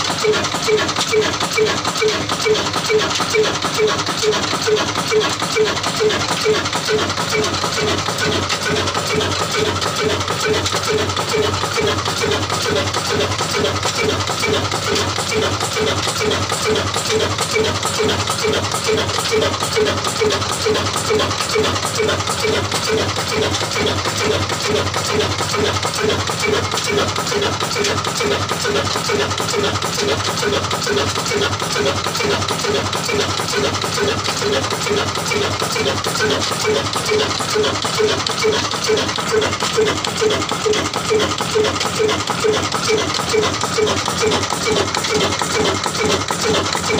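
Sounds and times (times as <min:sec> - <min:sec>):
stationary diesel engine running: 0:00.0 - 0:46.9.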